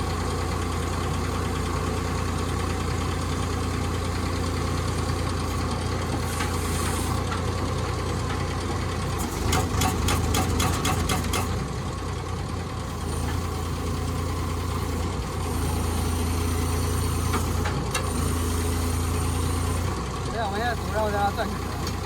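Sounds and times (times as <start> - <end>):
pile driver engine running: 0.0 - 22.0.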